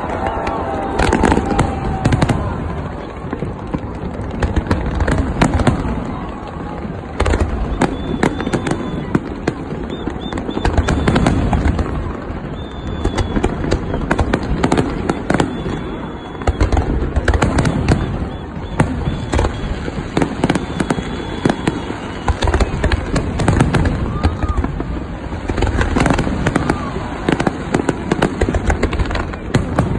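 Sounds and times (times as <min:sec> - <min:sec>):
fireworks bursting: 0:00.0 - 0:29.9.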